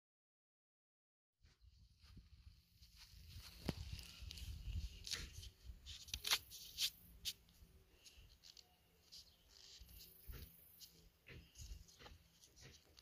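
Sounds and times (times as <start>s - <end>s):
rustling in dry grass: 1.5s - 13.0s.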